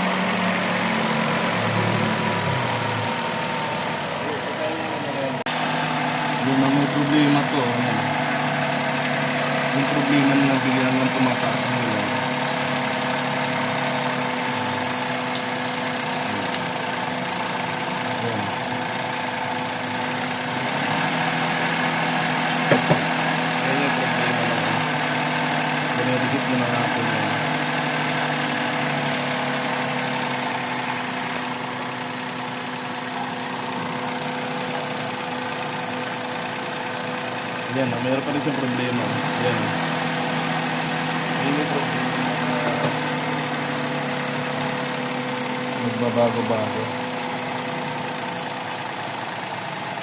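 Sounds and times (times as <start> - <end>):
engine idling with a misfire: 0.0 - 50.0.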